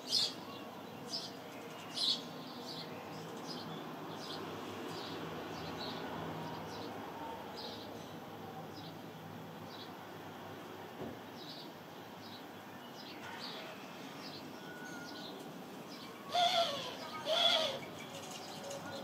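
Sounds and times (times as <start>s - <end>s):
sparrows chirping: 0.0s - 10.1s, 11.3s - 19.0s.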